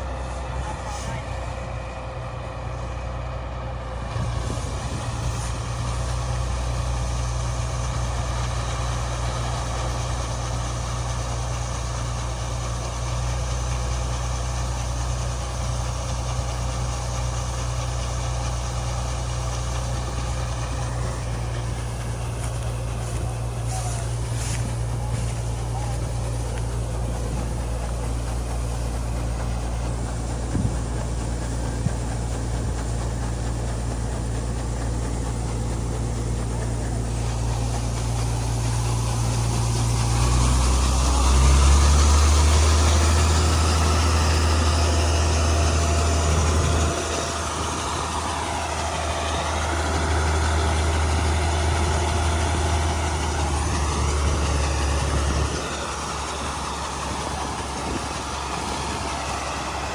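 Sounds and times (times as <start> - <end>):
diesel engine running: 0.0 - 59.9
machinery noise: 0.0 - 59.9.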